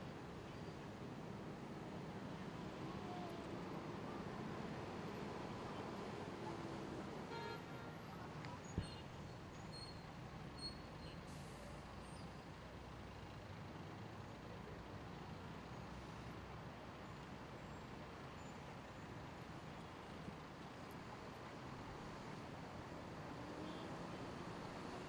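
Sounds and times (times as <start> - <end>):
hum of cars and buses: 0.0 - 25.0.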